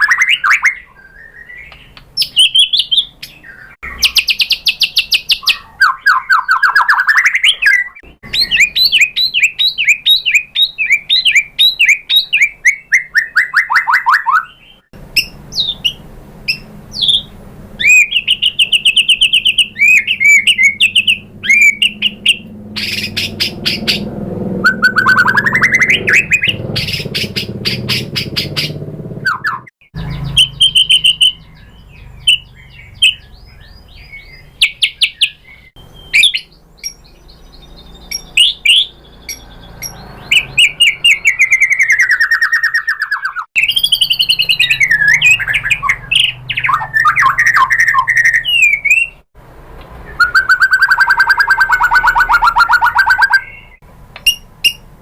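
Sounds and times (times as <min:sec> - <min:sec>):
songbird singing varied song: 0:00.0 - 0:54.9.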